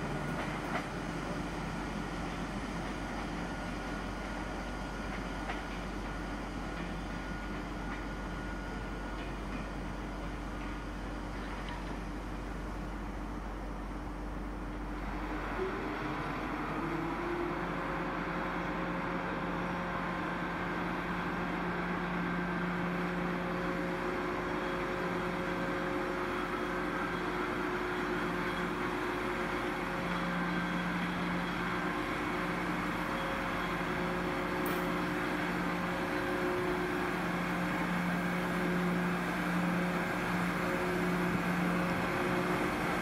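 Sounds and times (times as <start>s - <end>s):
train mechanical hum: 0.0s - 43.0s.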